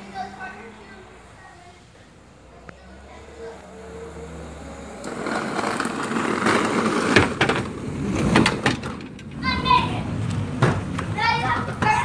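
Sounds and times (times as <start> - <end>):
small wheels rolling on concrete: 0.0 - 12.0.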